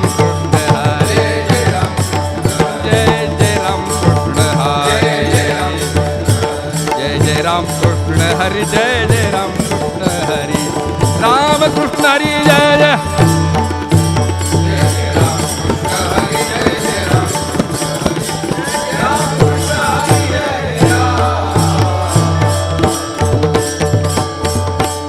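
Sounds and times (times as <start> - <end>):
tabla-like drum: 0.0 - 25.0.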